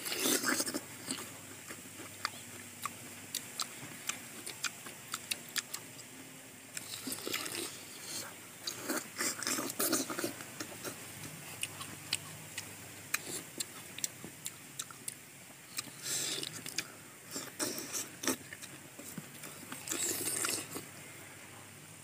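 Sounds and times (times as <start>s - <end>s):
fruit being bitten and chewed: 0.0s - 6.1s, 6.7s - 20.9s.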